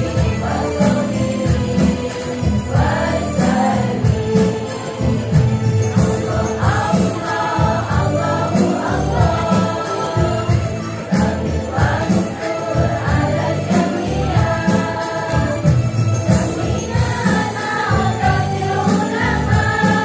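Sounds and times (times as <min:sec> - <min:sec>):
steady percussion beat: 0:00.0 - 0:20.0
women's choir singing: 0:00.0 - 0:20.0.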